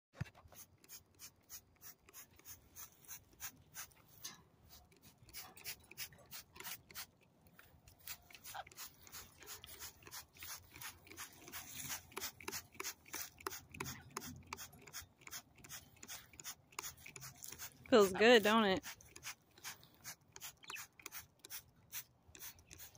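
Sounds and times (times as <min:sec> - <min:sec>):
spray bottle squirting: 0:00.5 - 0:04.0, 0:04.7 - 0:07.2, 0:07.9 - 0:18.2, 0:18.8 - 0:22.9.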